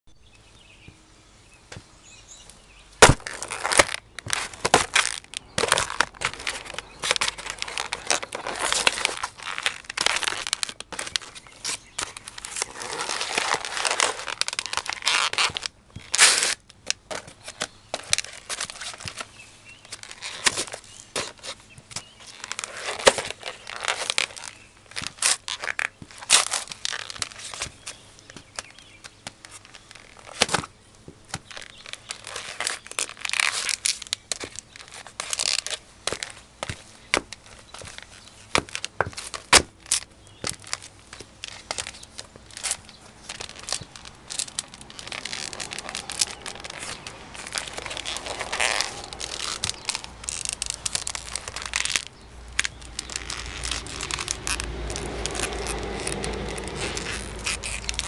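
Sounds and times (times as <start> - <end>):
cardboard crunching and crumpling: 3.0 - 58.0.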